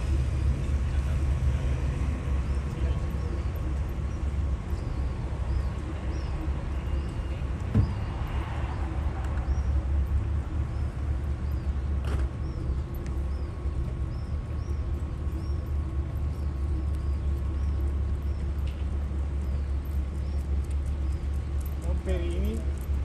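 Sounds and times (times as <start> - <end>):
boat engine rumble: 0.0 - 23.0
faint mechanical hum: 0.0 - 23.0
small birds chirping: 0.3 - 23.0.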